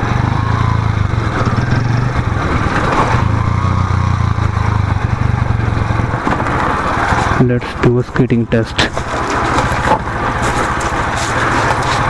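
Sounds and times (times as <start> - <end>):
motorcycle engine at low revs: 0.0 - 12.0
wind and road noise: 0.0 - 12.0.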